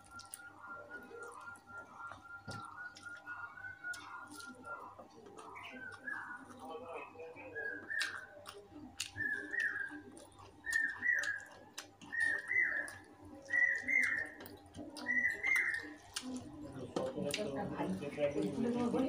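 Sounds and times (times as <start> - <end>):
wet chewing clicks: 0.0 - 19.0.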